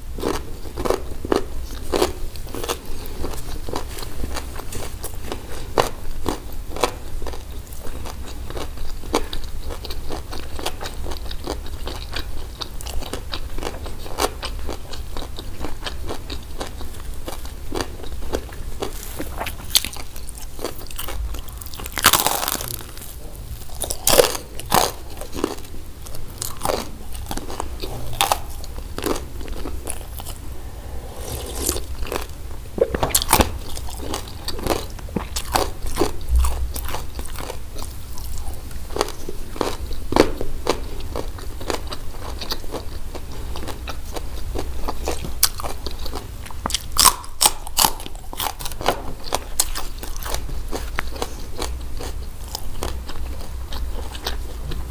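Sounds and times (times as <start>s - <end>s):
crispy bread crunching: 0.2s - 30.5s, 31.2s - 54.9s
chewing: 0.2s - 54.9s.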